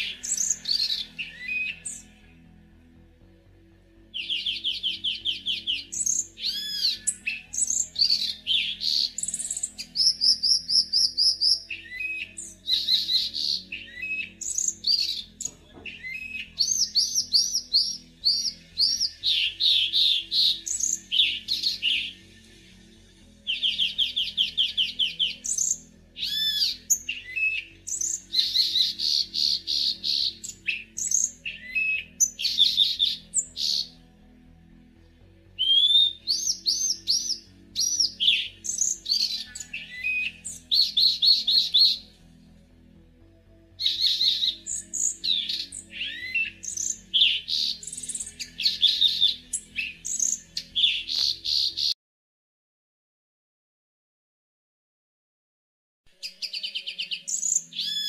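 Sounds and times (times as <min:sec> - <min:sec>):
bird singing whistles and trills: 0:00.0 - 0:02.4, 0:04.1 - 0:22.7, 0:23.4 - 0:34.0, 0:35.6 - 0:42.2, 0:43.8 - 0:52.0, 0:56.2 - 0:58.0.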